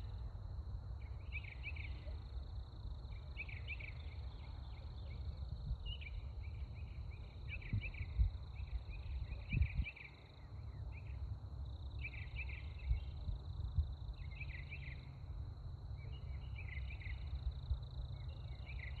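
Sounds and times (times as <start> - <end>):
insects chirping: 0.0 - 19.0
insects trilling: 0.0 - 19.0.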